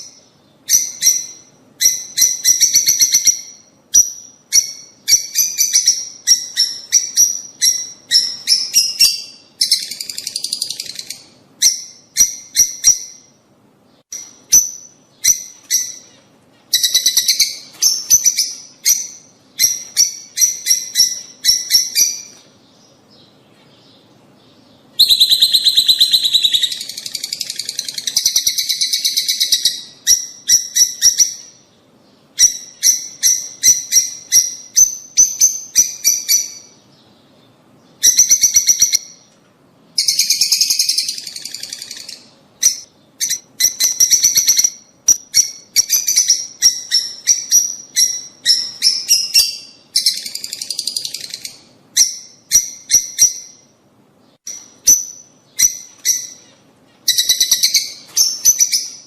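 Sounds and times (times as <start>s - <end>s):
lovebirds chirping shrilly: 0.0s - 13.4s, 14.0s - 39.2s, 40.0s - 59.0s.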